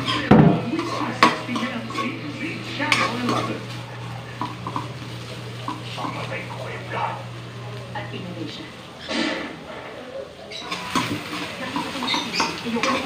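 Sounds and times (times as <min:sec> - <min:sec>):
ladle scraping a wok: 0:00.0 - 0:06.8, 0:09.0 - 0:13.0
faint sizzle: 0:00.0 - 0:13.0.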